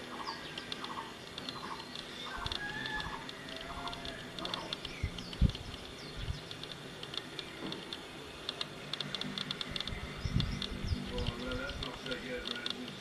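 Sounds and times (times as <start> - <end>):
descending bird calls: 0.0 - 13.0
insects chirping: 0.0 - 13.0.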